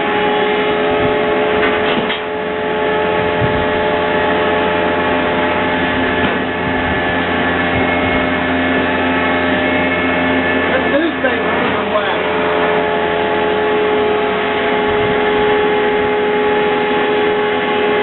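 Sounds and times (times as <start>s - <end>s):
generator machinery droning: 0.0s - 18.0s
machine hum: 0.0s - 18.0s.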